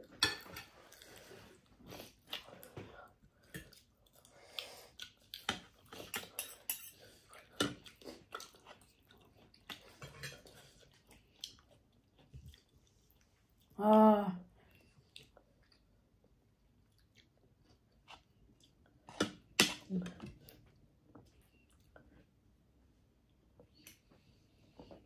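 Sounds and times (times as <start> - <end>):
chewing food: 0.1 - 13.8, 14.6 - 22.4.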